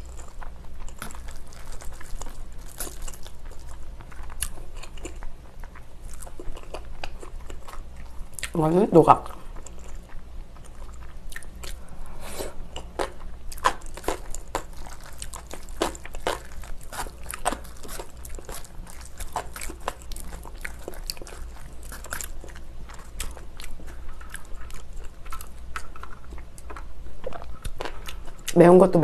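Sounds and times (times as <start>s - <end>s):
person chewing noodles: 0.0s - 8.6s, 9.3s - 28.6s
low steady hum: 0.0s - 29.0s.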